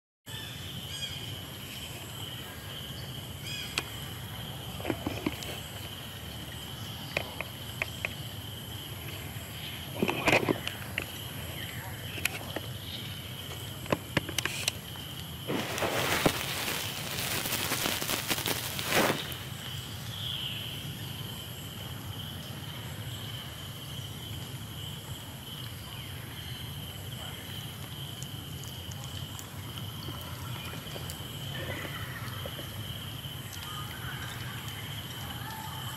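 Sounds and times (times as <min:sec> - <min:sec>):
high insect drone: 0:00.4 - 0:35.9.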